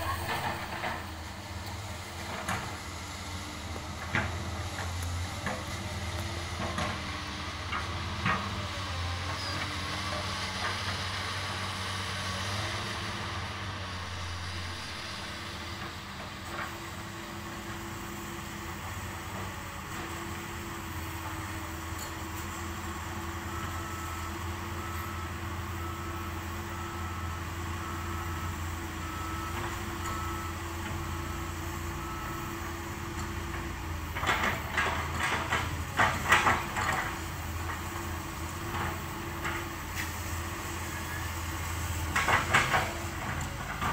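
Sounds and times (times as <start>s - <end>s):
distant excavator engine running: 0.0s - 43.9s.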